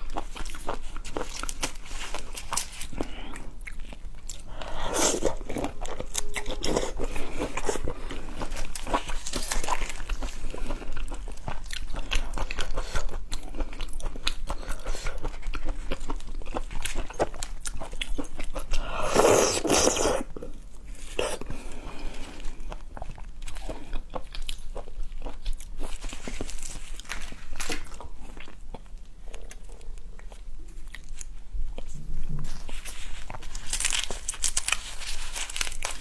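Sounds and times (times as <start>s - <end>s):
chewing and biting food: 0.0s - 21.6s, 22.2s - 36.0s.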